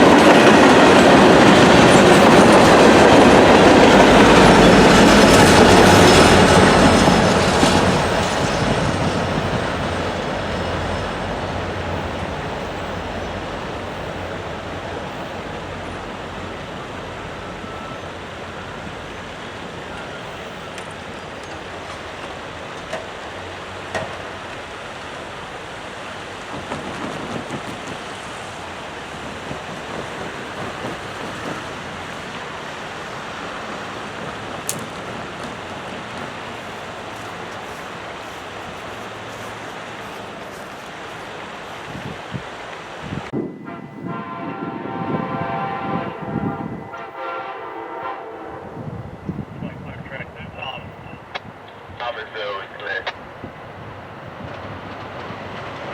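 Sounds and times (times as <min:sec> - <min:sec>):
train rumbling past: 0:00.0 - 0:55.9.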